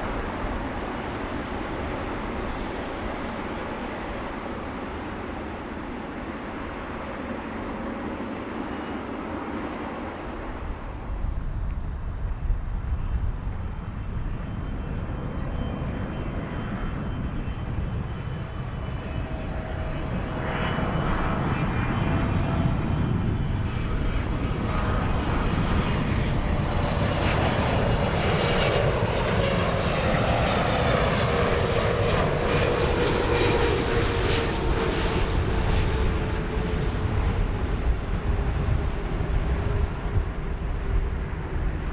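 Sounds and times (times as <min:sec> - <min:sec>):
jet airliner flying overhead: 0:00.0 - 0:41.9.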